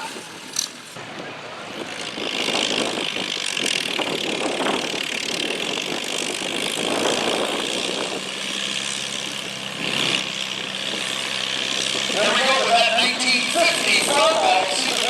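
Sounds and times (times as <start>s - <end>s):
tractor engine under load: 0.4s - 15.0s.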